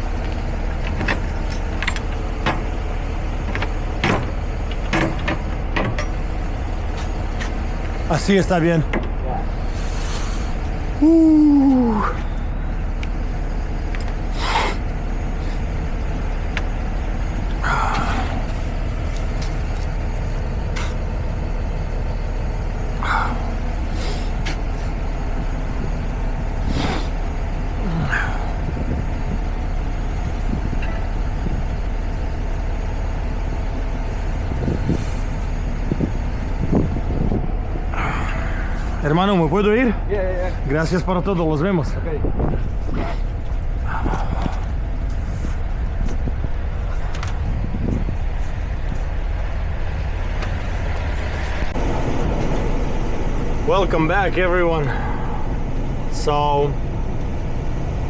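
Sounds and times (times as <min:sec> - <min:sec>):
truck diesel engine idling: 0:00.0 - 0:58.0.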